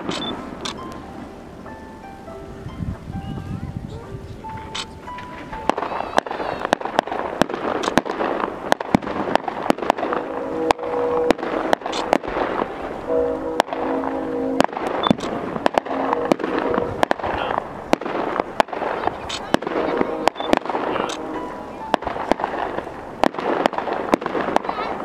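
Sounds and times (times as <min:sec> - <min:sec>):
fireworks bangs: 0:00.0 - 0:01.7, 0:04.0 - 0:25.0
fireworks crackling: 0:00.0 - 0:25.0.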